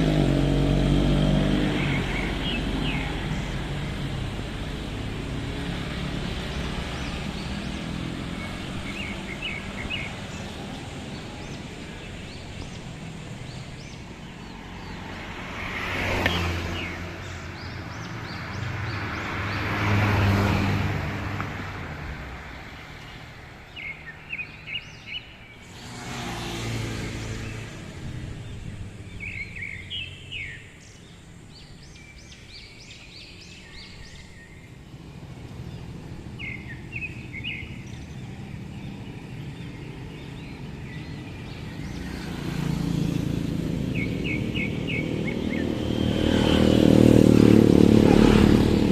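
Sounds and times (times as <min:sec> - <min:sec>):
road traffic passing: 0:00.0 - 0:48.9
vehicle passing by: 0:00.0 - 0:48.9.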